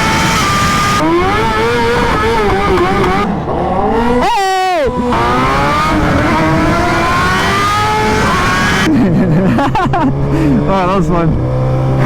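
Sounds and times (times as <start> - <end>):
motorcycle engine at full throttle: 0.0 - 12.0.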